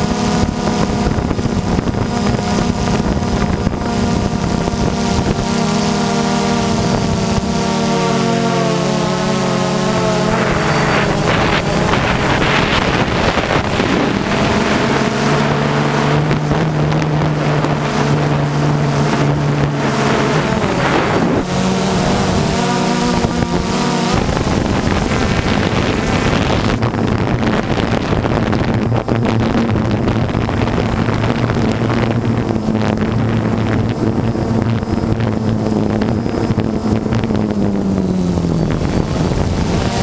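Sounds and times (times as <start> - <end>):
drone propellers whining: 0.0 - 40.0
wind buffeting microphone: 0.0 - 40.0.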